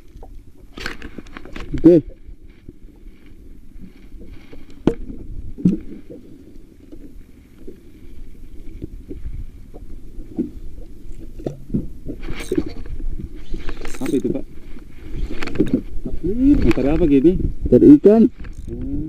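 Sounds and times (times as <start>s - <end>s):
water rumbling around boat: 0.0s - 19.0s
wind: 0.0s - 19.0s.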